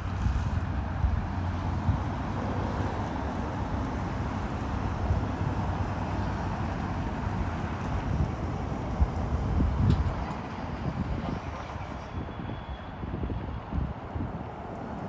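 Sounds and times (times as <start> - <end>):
steady outdoor rumble: 0.0 - 15.0
wind buffeting microphone: 0.0 - 15.0.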